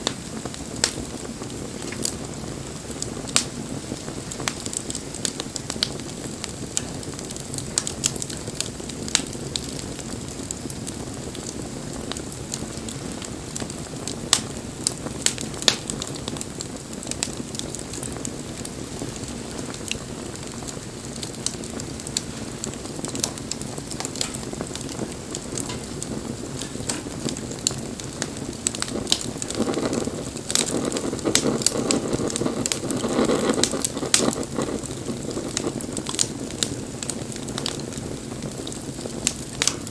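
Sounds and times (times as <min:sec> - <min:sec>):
bonfire flames rushing: 0:00.0 - 0:39.9
fire crackling and popping: 0:00.0 - 0:39.9.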